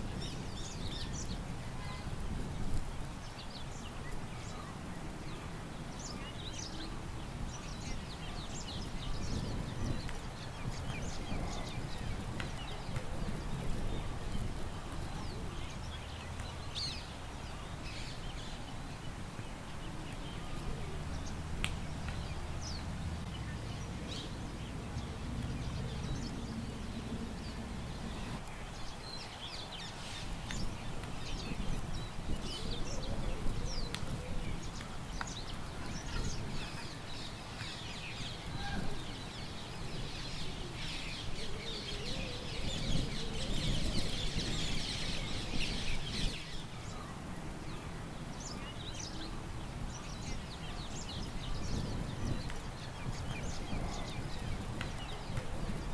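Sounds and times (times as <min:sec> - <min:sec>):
low wind rumble: 0:00.0 - 0:55.9
small birds chirping: 0:03.2 - 0:55.9.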